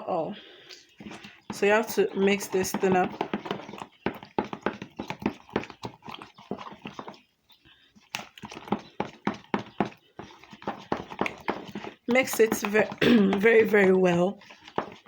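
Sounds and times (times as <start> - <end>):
spoon scraping a container: 0.9 - 7.3, 8.0 - 15.0.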